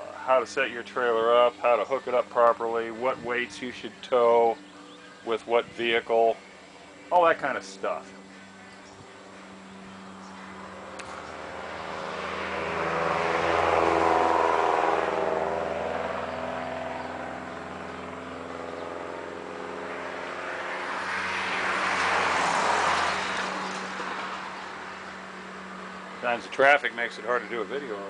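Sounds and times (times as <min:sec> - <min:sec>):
vehicles passing: 0:00.0 - 0:28.0.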